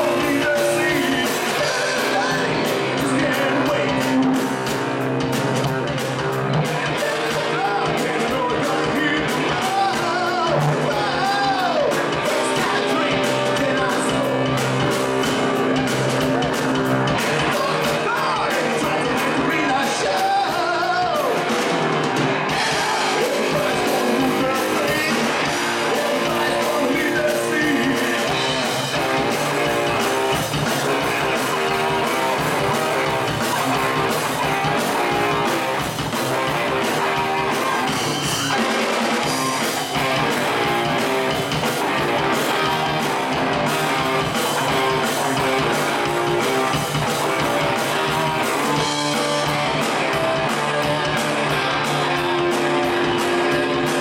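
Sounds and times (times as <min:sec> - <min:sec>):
person singing: 0:00.0 - 0:04.5, 0:06.2 - 0:21.6, 0:22.4 - 0:54.0
bass: 0:00.0 - 0:54.0
drums: 0:00.0 - 0:54.0
electric guitars: 0:00.0 - 0:54.0.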